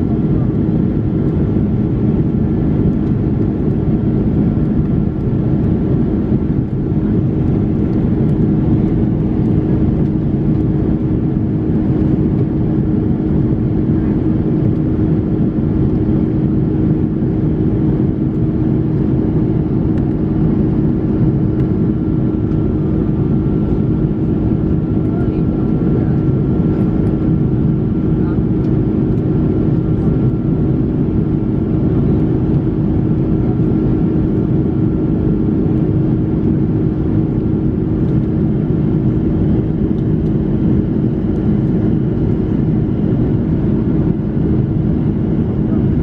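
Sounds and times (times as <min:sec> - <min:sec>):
airliner cabin drone: 0:00.0 - 0:46.0
low hum: 0:00.0 - 0:46.0.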